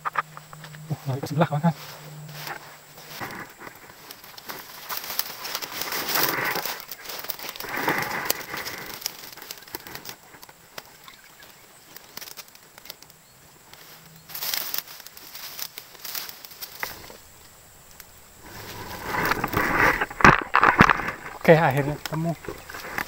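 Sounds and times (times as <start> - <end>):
leaves rustling in undergrowth: 0.0 - 23.0
small twigs snapping: 1.8 - 23.0.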